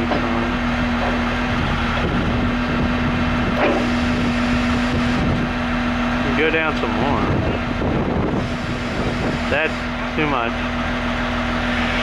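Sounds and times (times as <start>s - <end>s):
diesel loader engine running: 0.0s - 12.0s.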